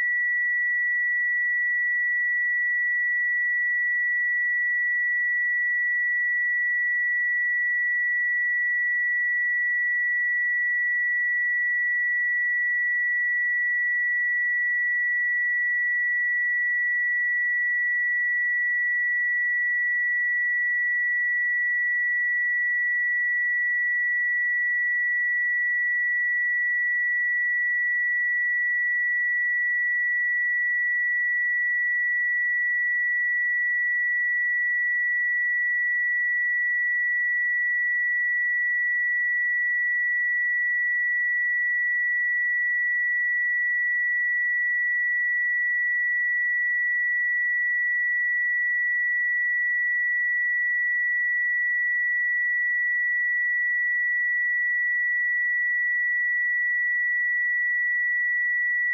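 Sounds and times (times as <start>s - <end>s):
high-pitched sine test tone: 0.0s - 58.9s.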